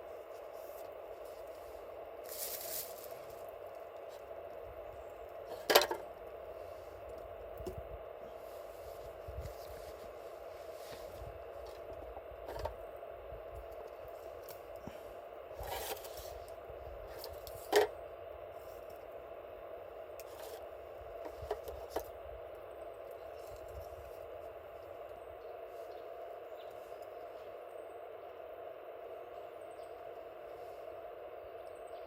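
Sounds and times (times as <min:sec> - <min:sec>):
steady hiss: 0:00.0 - 0:31.6.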